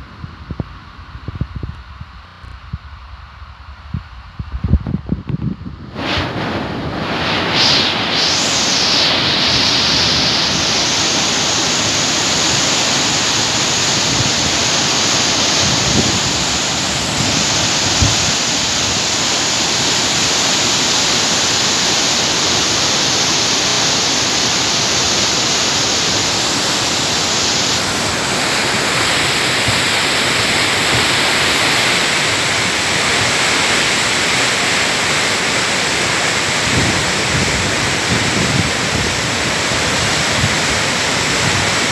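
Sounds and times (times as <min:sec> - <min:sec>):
river water rushing: 0:06.0 - 0:41.9.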